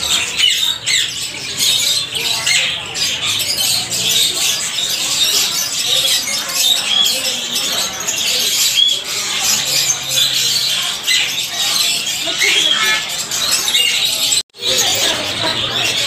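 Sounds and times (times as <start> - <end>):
parrots chirping and squeaking: 0.0 - 16.0.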